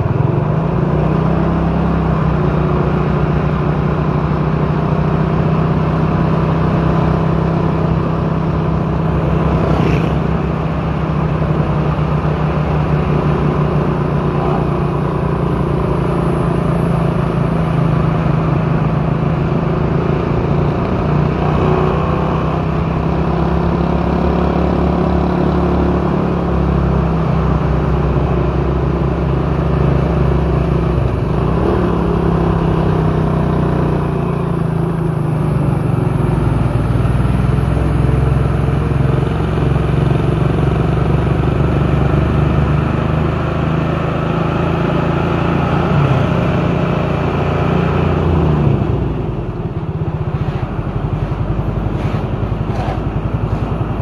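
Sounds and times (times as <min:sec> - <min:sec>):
road noise: 0:00.0 - 0:54.0
vehicle engine droning: 0:00.0 - 0:54.0.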